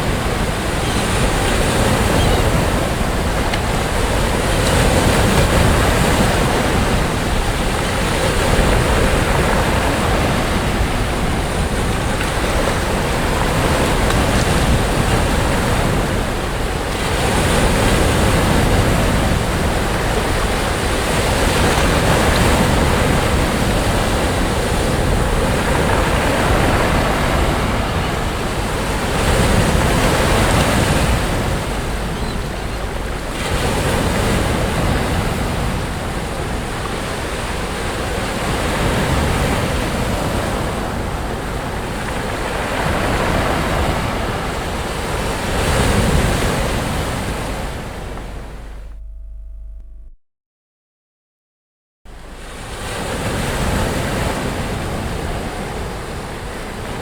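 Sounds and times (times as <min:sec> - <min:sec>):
sea waves breaking on beach: 0:00.0 - 0:48.9, 0:52.2 - 0:57.0.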